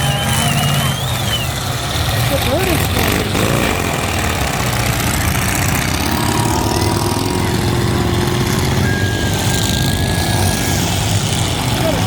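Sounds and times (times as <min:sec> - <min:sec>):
truck engines running loudly: 0:00.0 - 0:12.0.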